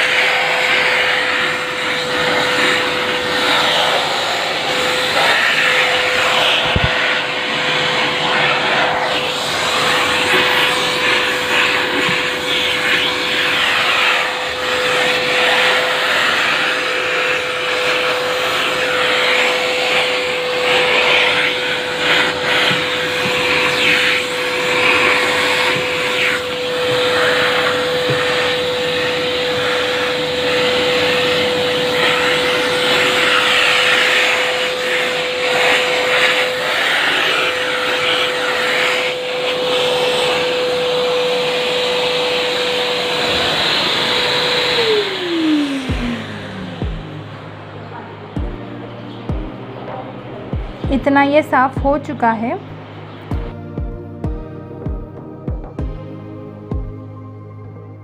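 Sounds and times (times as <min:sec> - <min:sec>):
vacuum brush sucking over surface: 0:00.0 - 0:53.6
vacuum cleaner motor whine: 0:00.0 - 0:57.0.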